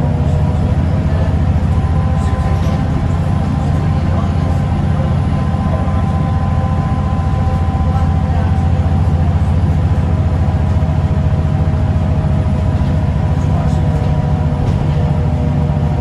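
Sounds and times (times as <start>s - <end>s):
bus diesel engine rumbling: 0.0s - 16.0s
driveline whine: 0.0s - 16.0s.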